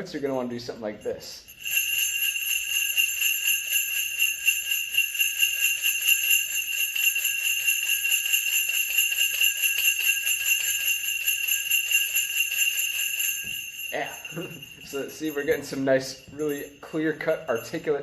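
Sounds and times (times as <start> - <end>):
sleigh bells jingling: 0.0 - 18.0.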